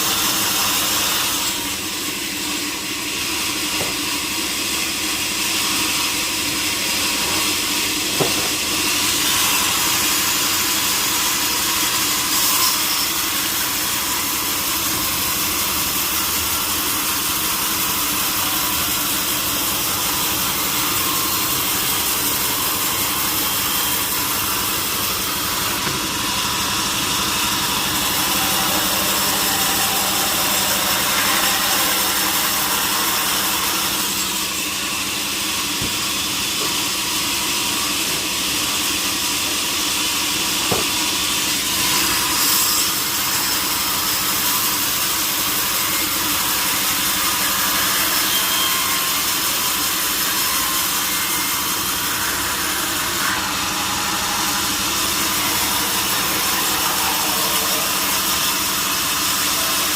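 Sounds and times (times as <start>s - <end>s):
motor saw cutting log: 0.0s - 59.9s.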